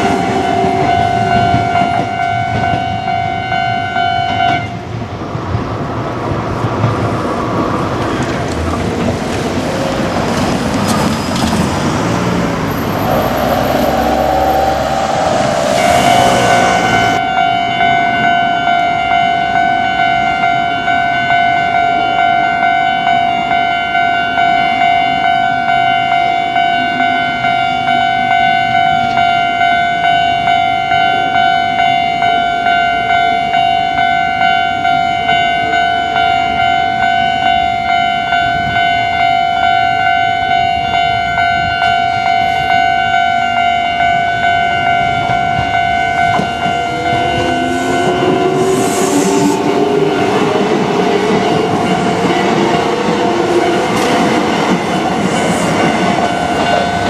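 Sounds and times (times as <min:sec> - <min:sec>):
level crossing warning bell: 0:00.0 - 0:04.8, 0:12.7 - 0:57.0.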